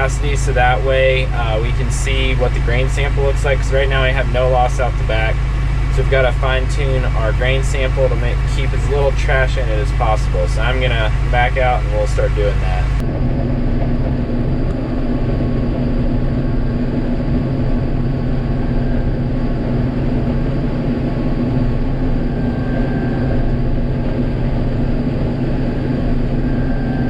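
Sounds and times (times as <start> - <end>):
combine harvester drone: 0.0 - 27.0.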